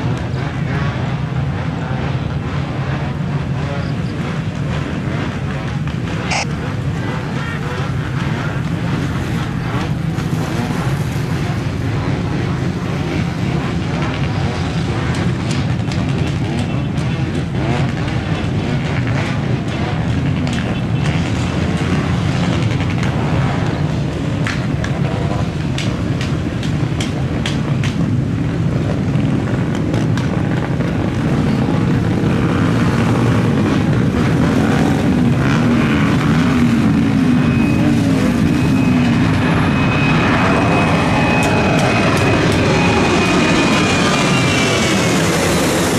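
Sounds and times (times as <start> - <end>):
jet engines rumbling: 0.0 - 18.6, 19.3 - 45.9.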